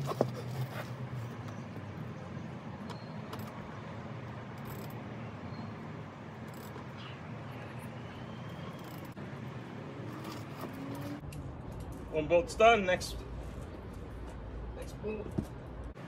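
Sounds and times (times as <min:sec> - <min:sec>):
low outdoor background hum: 0:00.0 - 0:16.0.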